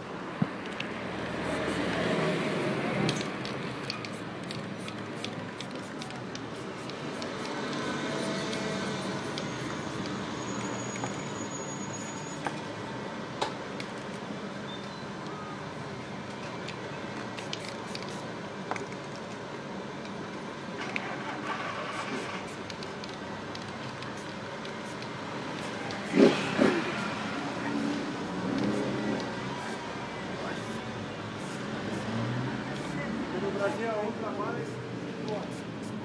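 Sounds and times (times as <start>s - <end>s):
traffic noise: 0.0s - 36.0s.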